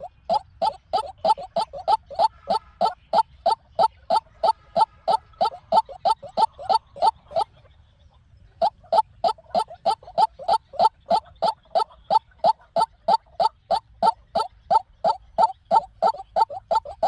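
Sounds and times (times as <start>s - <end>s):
waterhen calling harsh notes: 0.0s - 7.5s, 8.6s - 17.0s.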